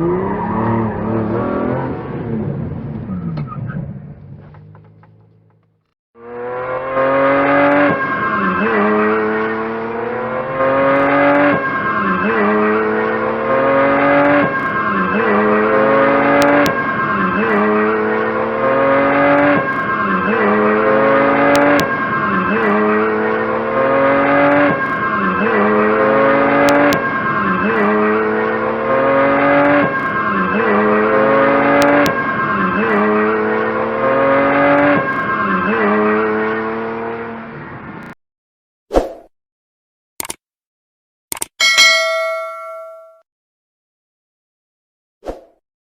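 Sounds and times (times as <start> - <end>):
car engine accelerating: 0.0 - 38.2.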